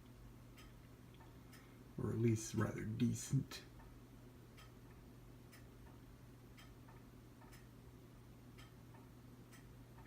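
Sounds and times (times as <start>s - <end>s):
clock ticking: 0.0s - 10.0s
low steady hum: 0.0s - 10.0s.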